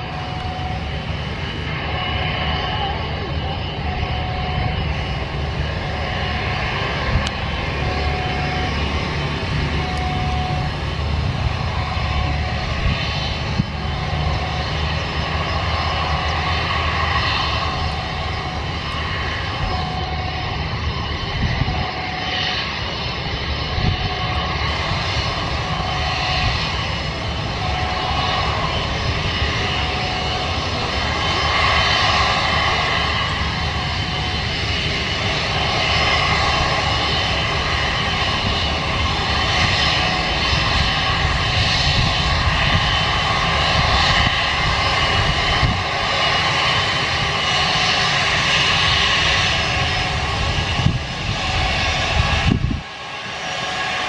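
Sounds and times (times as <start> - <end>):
distant jet engines rumbling: 0.0 - 54.0.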